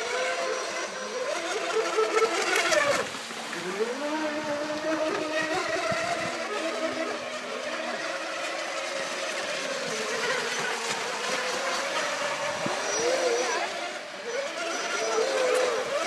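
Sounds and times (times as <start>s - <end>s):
racing boat motors whining: 0.0s - 16.0s.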